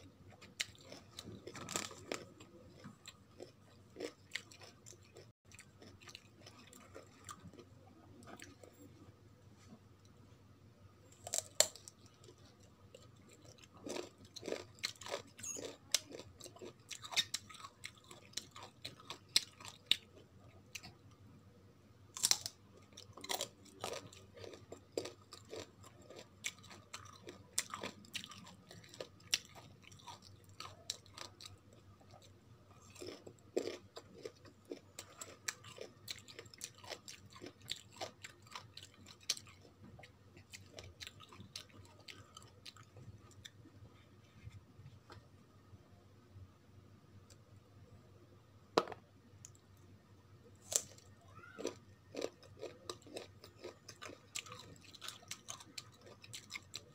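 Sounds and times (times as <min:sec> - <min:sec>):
crunchy chewing of raw mango: 0:00.3 - 0:08.9, 0:11.2 - 0:21.0, 0:22.2 - 0:43.6, 0:50.6 - 0:56.9.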